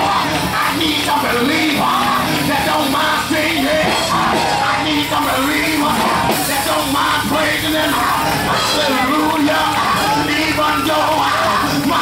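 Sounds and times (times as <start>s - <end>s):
congregation shouting and singing: 0.0s - 12.0s
gospel church music: 0.0s - 12.0s.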